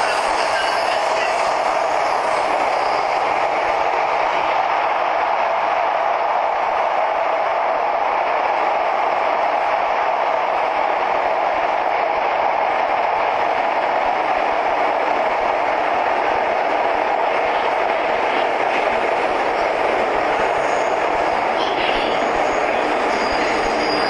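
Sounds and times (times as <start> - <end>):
metro train running in tunnel: 0.0 - 24.0.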